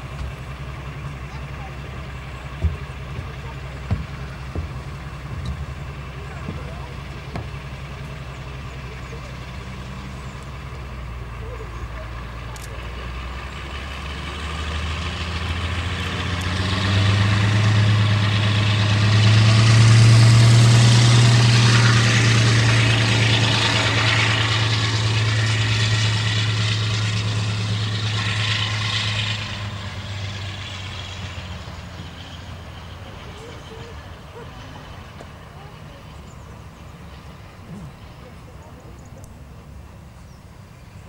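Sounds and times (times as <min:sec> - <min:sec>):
diesel locomotive engines: 0:00.0 - 0:41.0.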